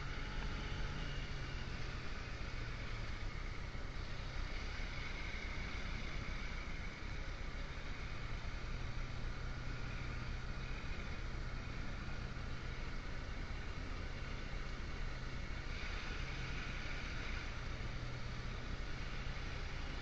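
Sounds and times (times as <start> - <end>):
motorbike engine cruising: 0.0 - 20.0
wind and road noise: 0.0 - 20.0.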